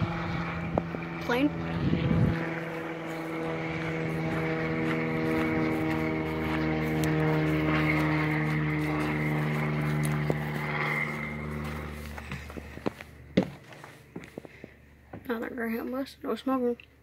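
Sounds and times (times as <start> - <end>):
airplane engine drone: 0.0 - 16.3.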